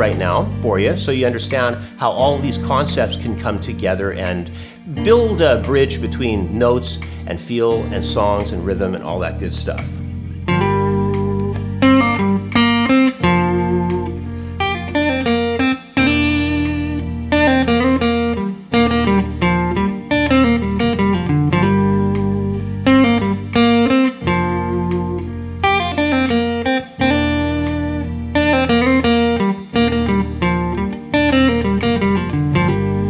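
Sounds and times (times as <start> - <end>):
backing jam track: 0.0 - 33.0
lead guitar solo: 0.0 - 33.0.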